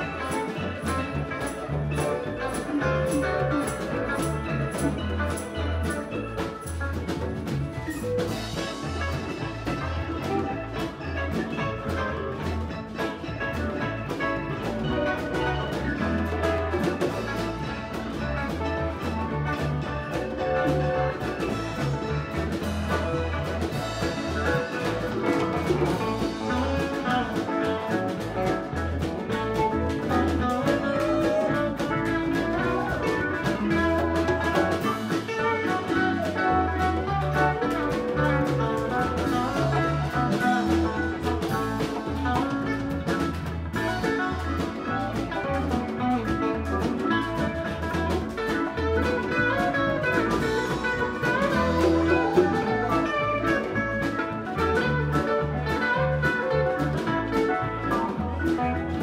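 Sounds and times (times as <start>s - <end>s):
bass line: 0.0s - 59.0s
drum kit steady beat: 0.0s - 59.0s
lead guitar bending notes: 0.0s - 59.0s.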